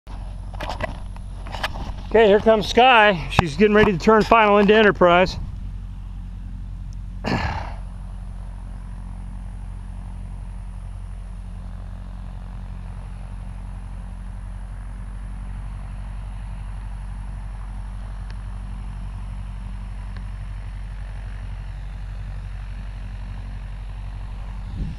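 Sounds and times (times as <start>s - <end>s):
engine idling: 0.1s - 24.9s.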